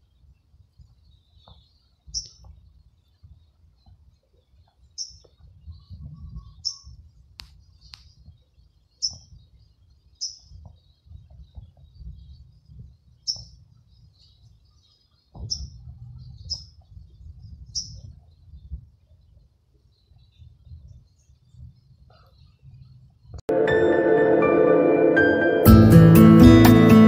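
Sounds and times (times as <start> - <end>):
small bird chirping: 0.0 - 23.4.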